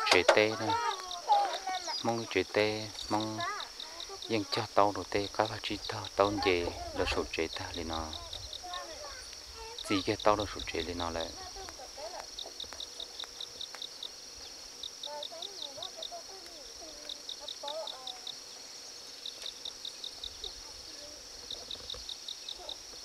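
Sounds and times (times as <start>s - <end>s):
insects droning: 0.0s - 23.0s
rapid insect chirps: 0.0s - 23.0s.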